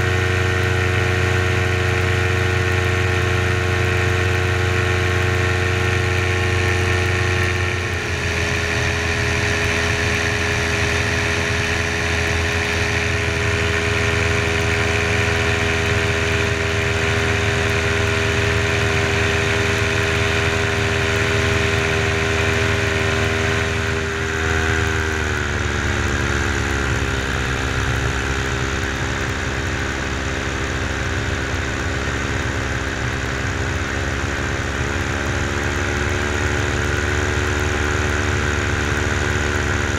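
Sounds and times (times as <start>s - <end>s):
paramotor engine running: 0.0s - 39.9s.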